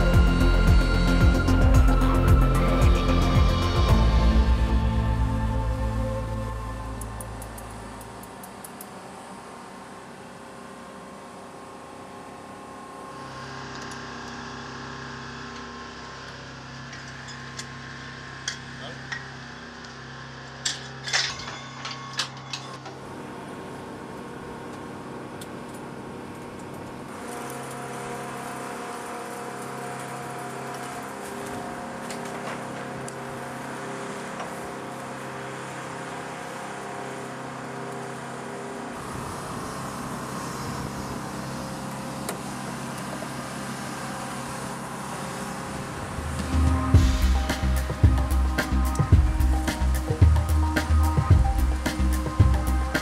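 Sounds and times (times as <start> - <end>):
machinery hum: 0.0 - 53.0.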